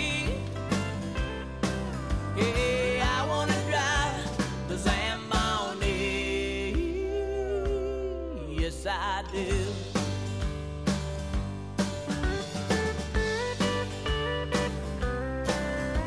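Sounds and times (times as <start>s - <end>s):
country song with bass and drums: 0.0s - 16.0s.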